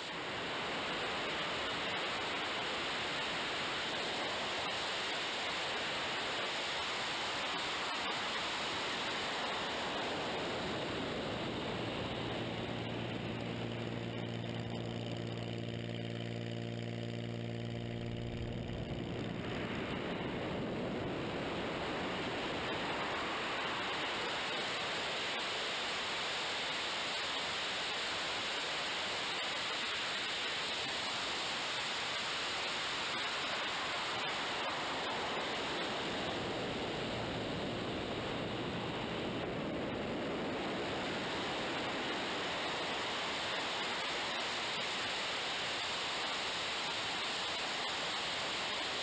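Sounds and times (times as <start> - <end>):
propeller engine drone: 0.0 - 49.0.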